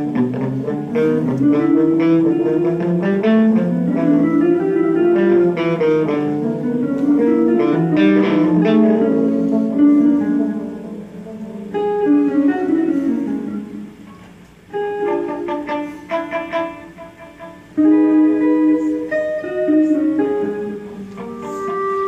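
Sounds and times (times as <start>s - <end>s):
electric guitars plucking notes: 0.0s - 22.0s.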